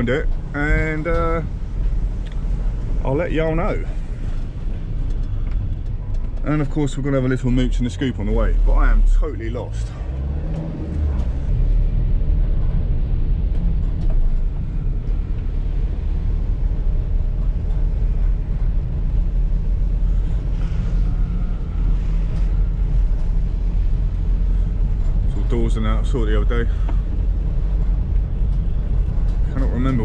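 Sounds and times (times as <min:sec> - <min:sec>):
road noise: 0:00.0 - 0:30.0
vehicle engine rumble: 0:00.0 - 0:30.0.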